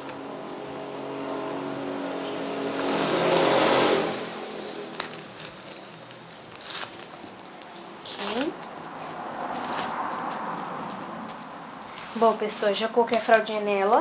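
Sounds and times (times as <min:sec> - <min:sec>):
motor vehicle passing by: 0:00.0 - 0:12.6.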